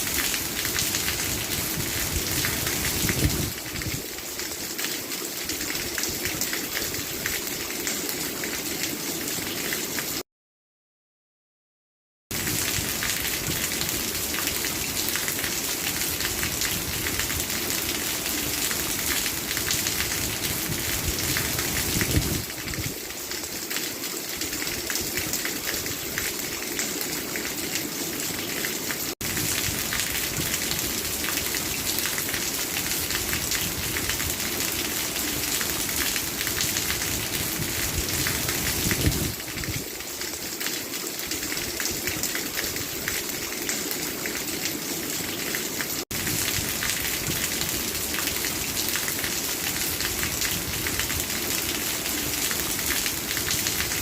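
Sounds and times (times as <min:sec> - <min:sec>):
heavy rain falling: 0:00.0 - 0:10.2, 0:12.3 - 0:54.0.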